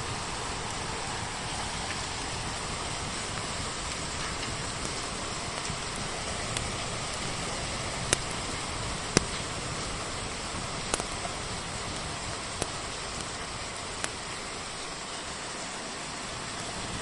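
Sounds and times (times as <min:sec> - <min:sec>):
wood fire crackling: 0:00.0 - 0:15.5
rain hissing: 0:00.0 - 0:17.0.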